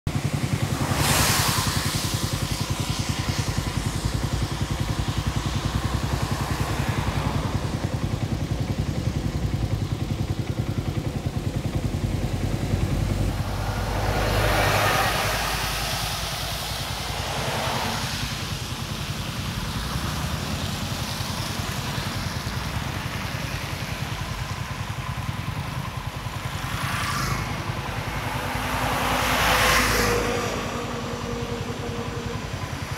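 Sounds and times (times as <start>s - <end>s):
cars and bus passing: 0.1s - 32.9s
low traffic rumble: 0.1s - 32.9s
tyres hissing on wet road: 0.1s - 32.9s.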